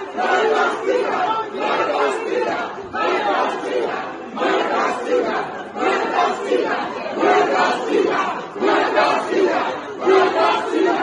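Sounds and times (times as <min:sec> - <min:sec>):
crowd shouting: 0:00.0 - 0:11.0.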